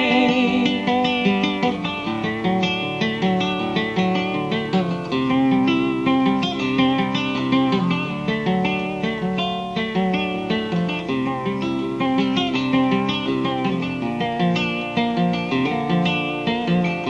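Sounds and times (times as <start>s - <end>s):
plucked string instruments: 0.0s - 17.0s.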